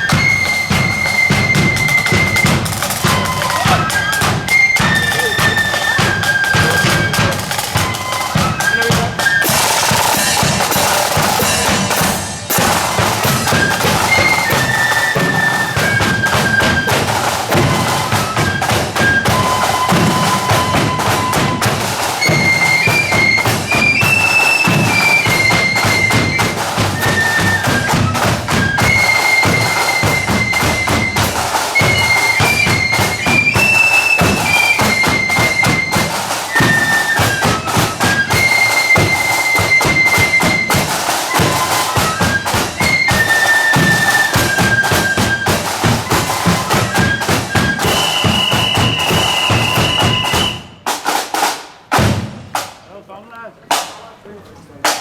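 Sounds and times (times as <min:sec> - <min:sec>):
flutes playing melody: 0:00.0 - 0:50.9
side drums: 0:00.0 - 0:55.0.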